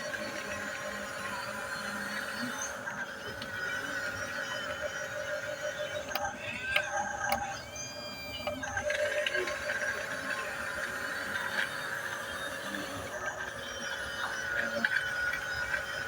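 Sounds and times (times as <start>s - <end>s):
toy bulldozer motors whining: 0.0s - 16.0s.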